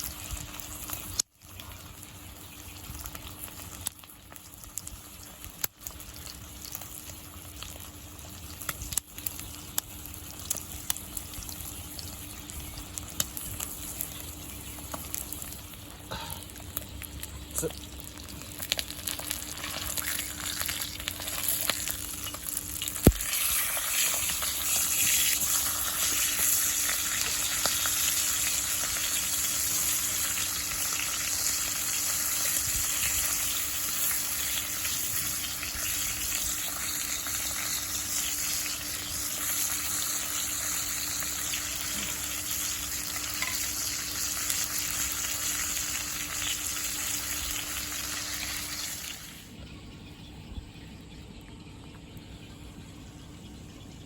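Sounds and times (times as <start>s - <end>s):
meat sizzling in a frying pan: 0.0s - 49.5s.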